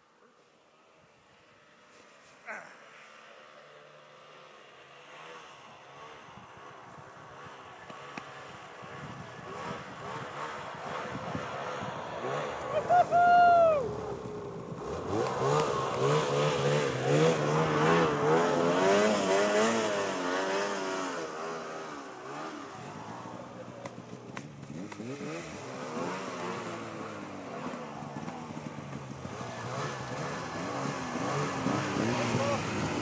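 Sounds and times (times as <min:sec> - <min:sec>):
snowmobile engine revving: 0:01.2 - 0:33.0.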